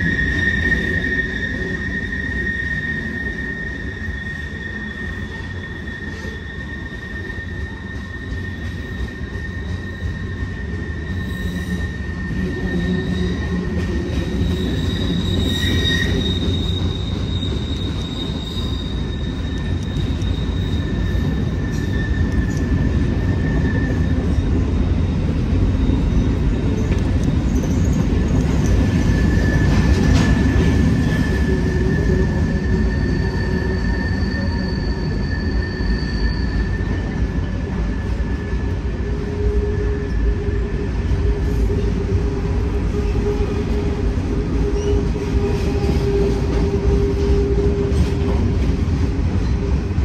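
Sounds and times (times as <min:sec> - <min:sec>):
high-pitched wheel squeal: 0:00.0 - 0:48.6
train wheels rumbling: 0:00.0 - 0:50.0.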